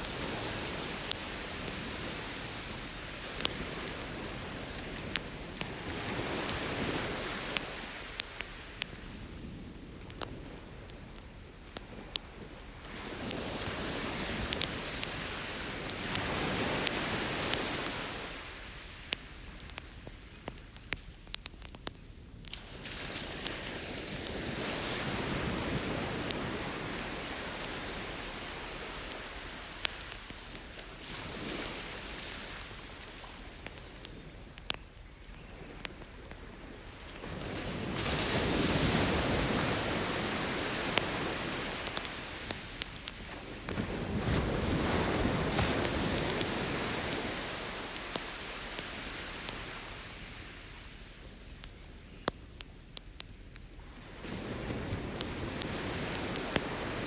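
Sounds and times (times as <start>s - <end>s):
ocean surf washing ashore: 0.0s - 11.2s, 11.8s - 19.6s, 22.6s - 34.4s, 35.6s - 51.1s, 54.0s - 57.0s
campfire crackling and popping: 0.0s - 57.0s.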